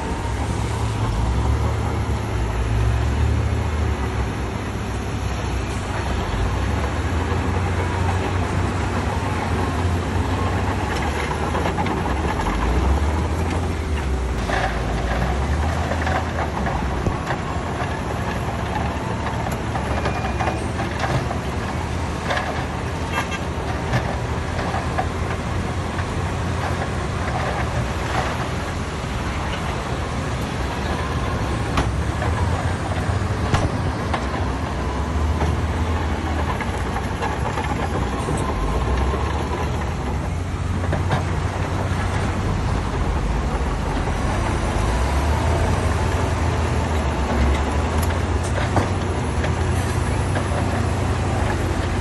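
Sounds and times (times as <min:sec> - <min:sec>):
diesel machinery engine rumble: 0:00.0 - 0:52.0.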